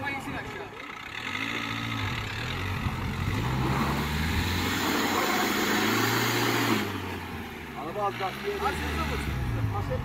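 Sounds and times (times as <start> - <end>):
car engine revving under load: 0.9 - 10.0.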